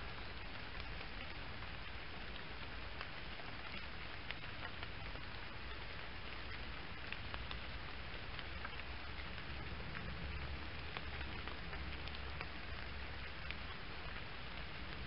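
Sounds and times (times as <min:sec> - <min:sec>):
rain drop ticks: 0:00.0 - 0:15.0
rain hissing: 0:00.0 - 0:15.0.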